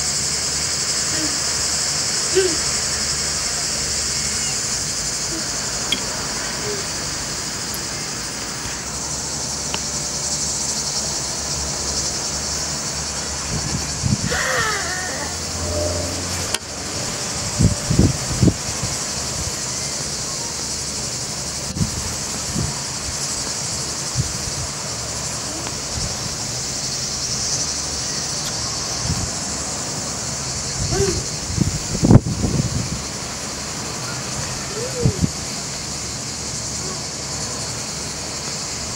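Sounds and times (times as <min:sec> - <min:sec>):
cicadas shrilling: 0:00.0 - 0:38.9.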